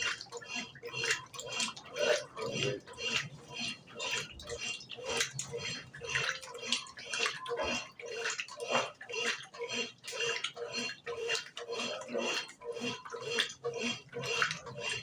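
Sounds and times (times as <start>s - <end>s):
washing machine water sloshing: 0.0s - 15.0s.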